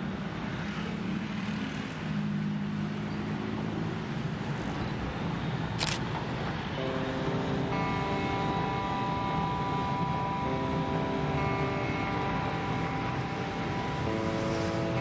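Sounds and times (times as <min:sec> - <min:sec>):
road traffic engine drone: 0:00.0 - 0:15.0.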